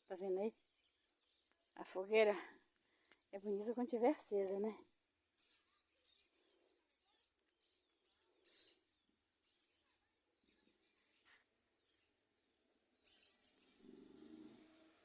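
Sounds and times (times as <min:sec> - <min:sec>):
faint bird chirps: 0:00.0 - 0:03.8, 0:04.8 - 0:15.0.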